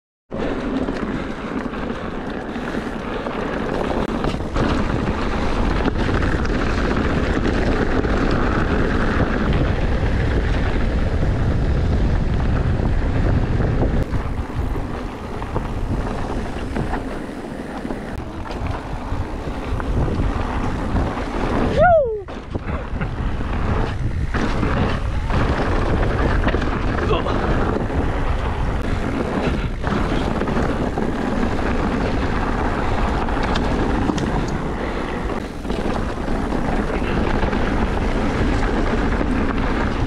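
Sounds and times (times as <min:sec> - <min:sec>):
tyres rumbling on trail: 0:00.3 - 0:40.0
wind rushing over microphone: 0:00.3 - 0:40.0.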